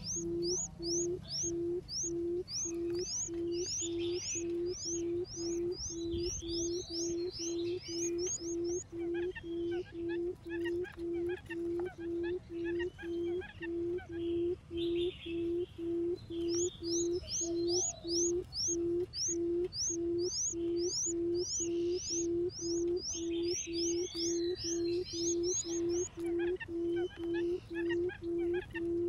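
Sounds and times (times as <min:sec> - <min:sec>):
bird quick high chirps: 0:00.0 - 0:14.1, 0:14.8 - 0:28.8
bird low hooting call: 0:00.0 - 0:29.0.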